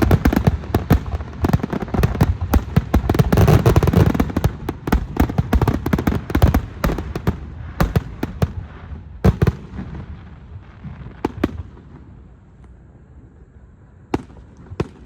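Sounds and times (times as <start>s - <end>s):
fireworks bangs: 0.0s - 12.4s, 14.1s - 15.0s.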